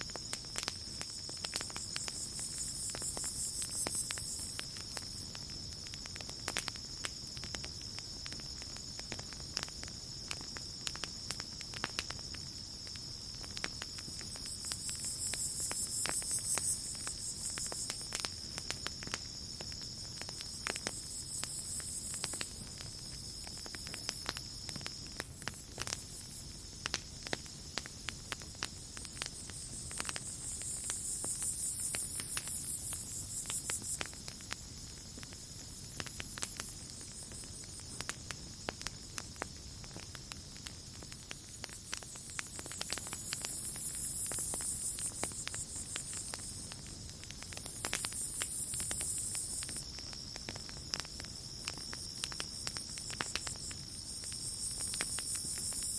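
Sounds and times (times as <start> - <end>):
campfire crackling and popping: 0.0 - 55.9
insects chirring: 0.0 - 55.9
night insects trilling: 0.0 - 55.9.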